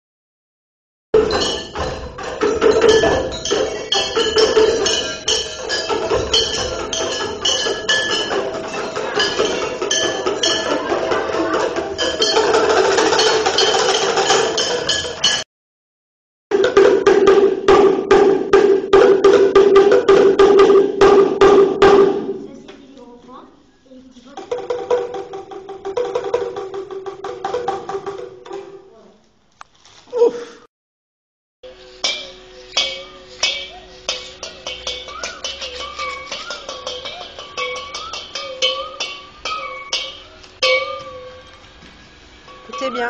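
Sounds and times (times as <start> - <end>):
percussive music: 1.2 - 15.4, 16.5 - 22.6, 24.3 - 29.0, 31.6 - 43.0.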